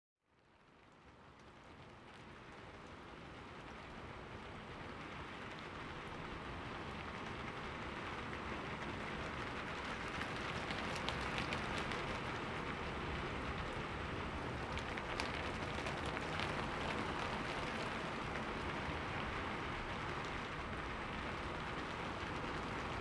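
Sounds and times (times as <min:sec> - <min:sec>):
rain on a window: 0:00.2 - 0:23.0.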